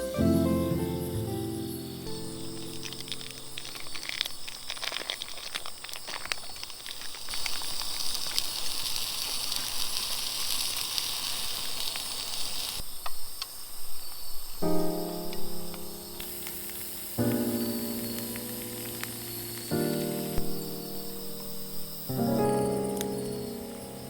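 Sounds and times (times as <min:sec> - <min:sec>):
campfire sizzling and hissing: 0:00.0 - 0:24.0
fire crackles: 0:02.0 - 0:24.0.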